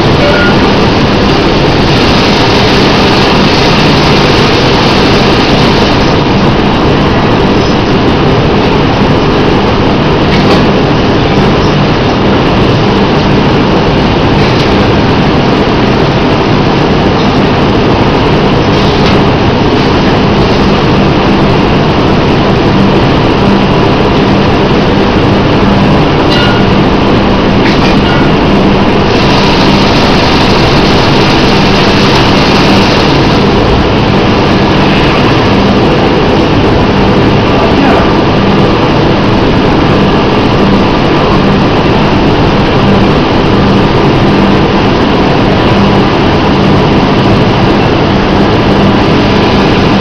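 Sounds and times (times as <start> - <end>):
mill machinery running: 0.0 - 50.0.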